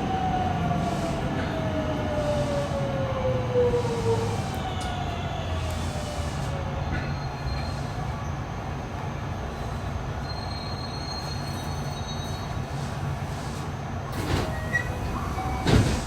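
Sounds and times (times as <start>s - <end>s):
train wheels rumbling: 0.0s - 8.2s, 9.0s - 16.0s.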